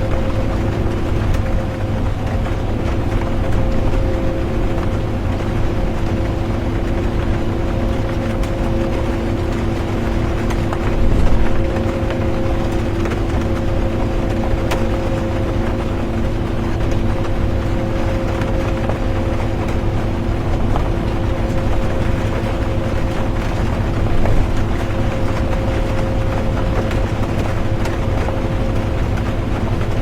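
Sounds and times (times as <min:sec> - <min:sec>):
bus engine hum: 0:00.0 - 0:30.0
low road rumble: 0:00.0 - 0:30.0
rain ticking on bus: 0:00.0 - 0:30.0.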